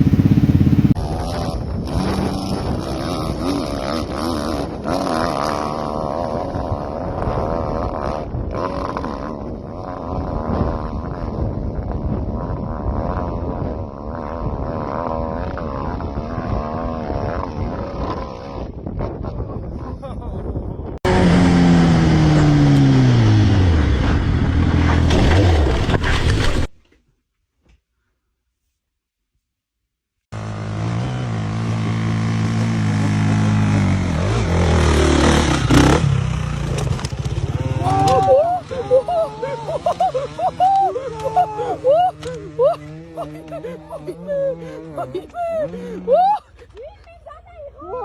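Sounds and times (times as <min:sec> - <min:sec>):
motorcycle engine revving: 0:00.0 - 0:19.2, 0:21.0 - 0:26.7, 0:30.3 - 0:46.1.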